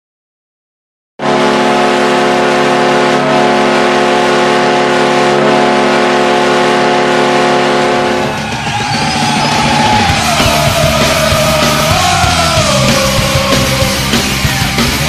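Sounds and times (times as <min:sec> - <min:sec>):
hockey goal horn blast: 0:01.2 - 0:13.3.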